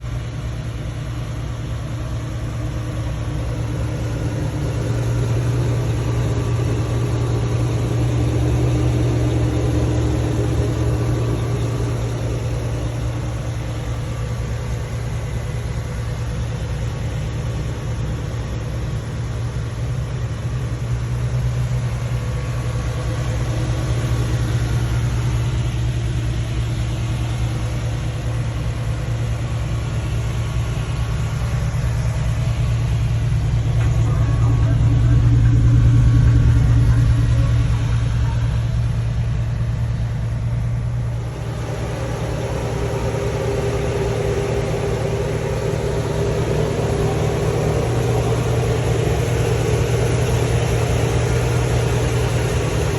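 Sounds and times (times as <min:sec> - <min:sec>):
engine idling with low exhaust: 0:00.0 - 0:52.9.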